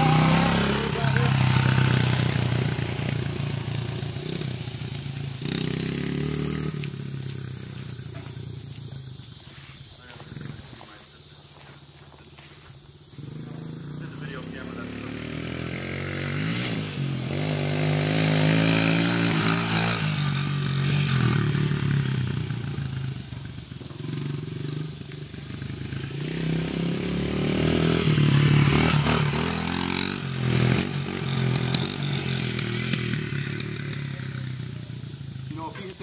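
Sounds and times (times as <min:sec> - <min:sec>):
dirt bike engine revving: 0:00.0 - 0:11.2, 0:13.1 - 0:36.0.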